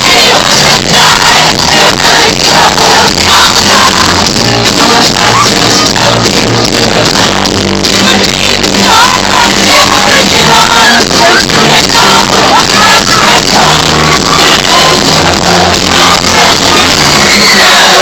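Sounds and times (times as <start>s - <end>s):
live band playing pop-rock: 0.0s - 18.0s
voices singing and shouting: 0.0s - 18.0s.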